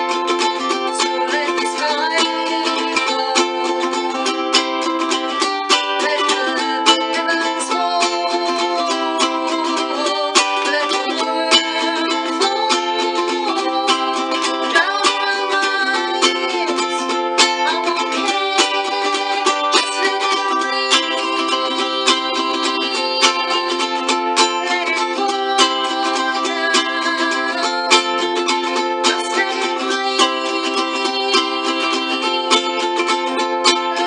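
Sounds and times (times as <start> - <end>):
ukulele strumming: 0.0 - 34.0.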